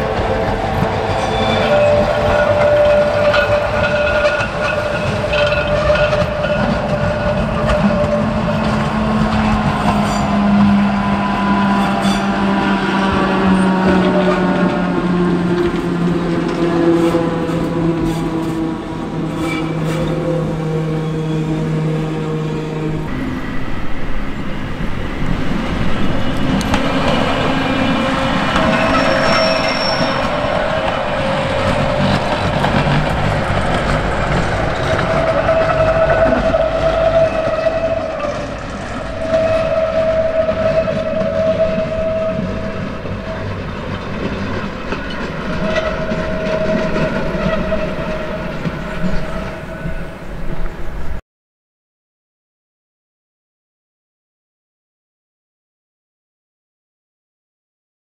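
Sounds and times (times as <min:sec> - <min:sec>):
railcar rumbling on track: 0:00.0 - 0:51.2.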